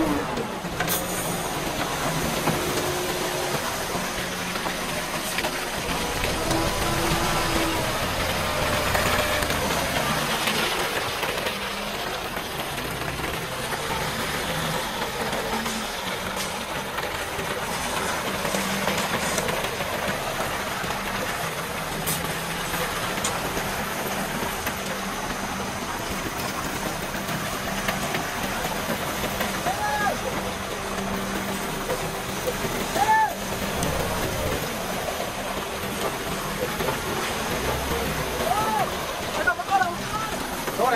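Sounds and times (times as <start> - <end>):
diesel engine running: 0.0 - 40.9
wet concrete sliding down chute: 0.0 - 40.9.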